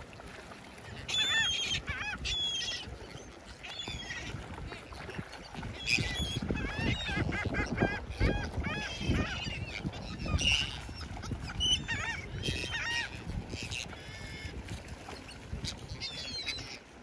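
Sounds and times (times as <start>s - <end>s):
gulls calling: 0.8s - 17.0s.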